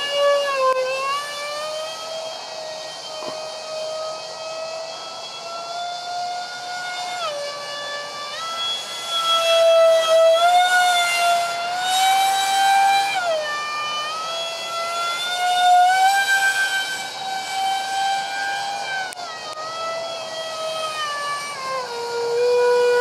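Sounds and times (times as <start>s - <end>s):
electric ducted fans screeching: 0.0s - 23.0s.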